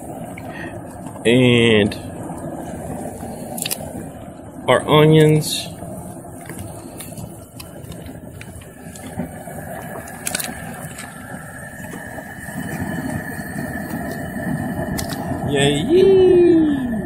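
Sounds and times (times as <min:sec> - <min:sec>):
gas burner roaring: 0:00.0 - 0:17.0
water boiling: 0:00.0 - 0:17.0.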